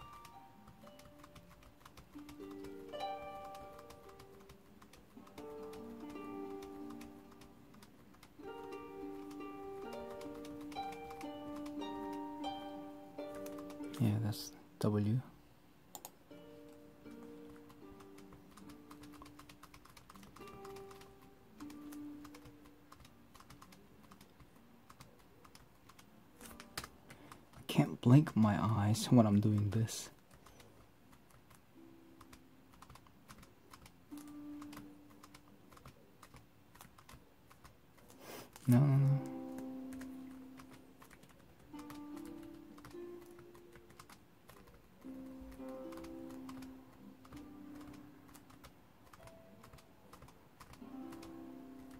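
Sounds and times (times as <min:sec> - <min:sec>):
laptop keyboard typing: 0:00.0 - 0:14.1, 0:15.9 - 0:27.7, 0:29.3 - 0:51.9
quiet background music: 0:00.0 - 0:51.9.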